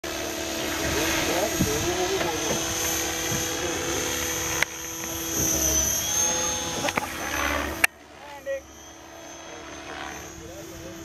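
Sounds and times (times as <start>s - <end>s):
model helicopter motor whine: 0.0s - 11.0s.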